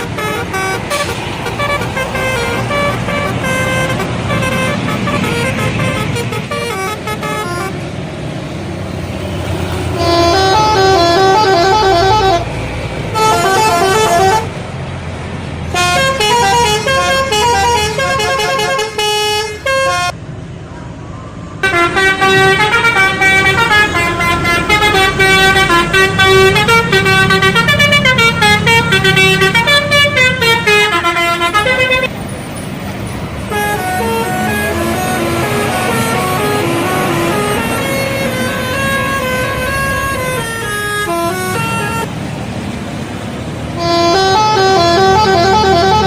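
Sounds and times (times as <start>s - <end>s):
bus horn playing melodies: 0.0s - 7.9s, 9.7s - 14.6s, 15.7s - 20.2s, 21.6s - 32.2s, 33.4s - 42.2s, 43.7s - 46.0s
low bus engine rumble: 0.0s - 46.0s.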